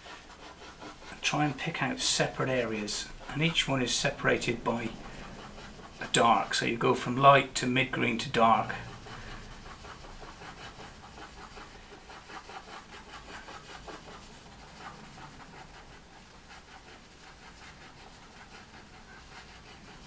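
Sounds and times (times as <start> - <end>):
pencil scratching on paper: 0.0 - 20.0.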